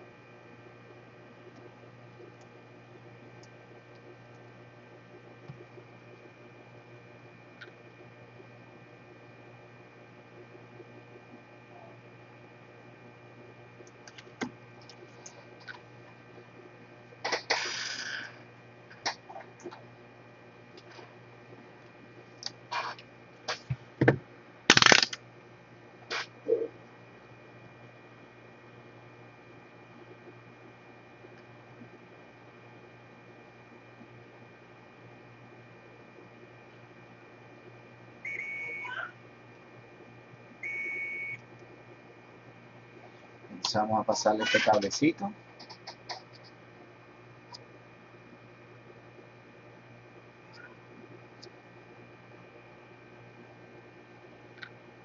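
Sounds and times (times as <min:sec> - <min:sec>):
faint mains hum: 0:00.0 - 0:55.0.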